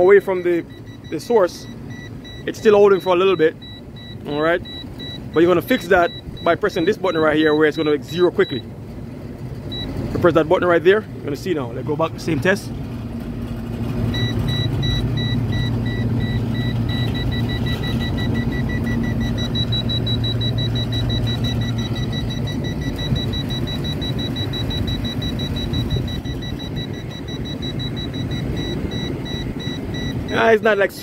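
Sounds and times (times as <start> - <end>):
gas detector alarm beeping: 0.0 - 8.6, 9.7 - 10.0, 14.1 - 31.0.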